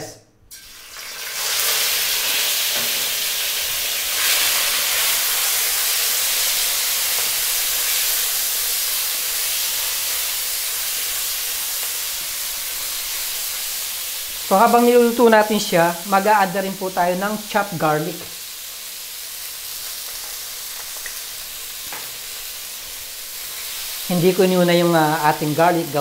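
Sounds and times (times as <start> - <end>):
chicken sizzling in hot oil: 0.5 - 26.0.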